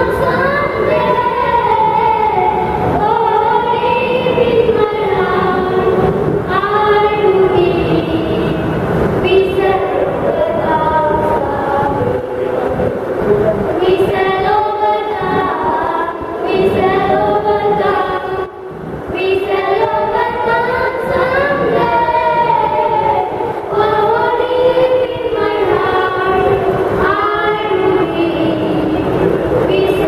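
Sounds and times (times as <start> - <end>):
boys singing into microphone: 0.0 - 30.0.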